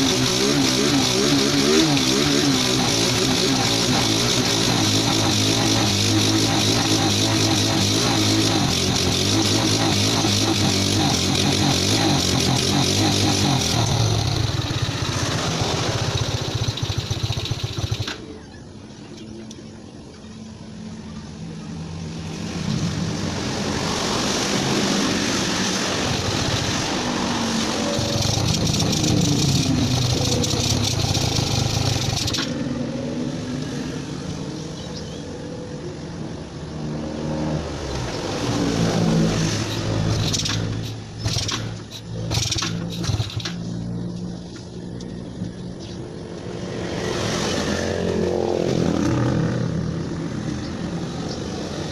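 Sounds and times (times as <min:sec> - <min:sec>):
motorcycle engine revving: 0:00.0 - 0:18.5, 0:23.6 - 0:35.0, 0:36.7 - 0:51.9.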